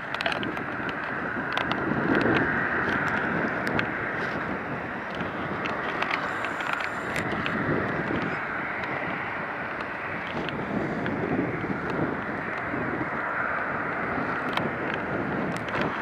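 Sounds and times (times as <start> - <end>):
jet aircraft rushing noise: 0.0 - 16.0
wind buffeting microphone: 0.0 - 16.0.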